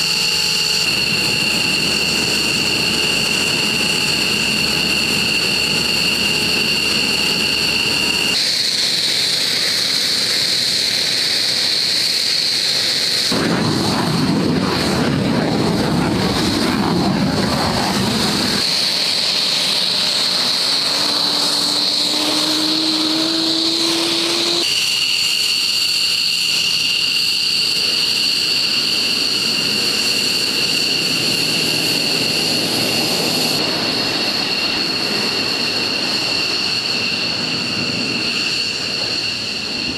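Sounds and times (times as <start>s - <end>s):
jet engine turbine whine: 0.0s - 39.9s.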